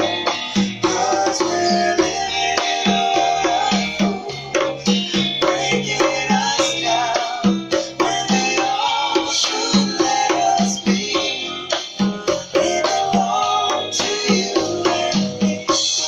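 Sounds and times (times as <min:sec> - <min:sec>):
conga drum strokes: 0:00.0 - 0:16.0
instrumental pop music: 0:00.0 - 0:16.0.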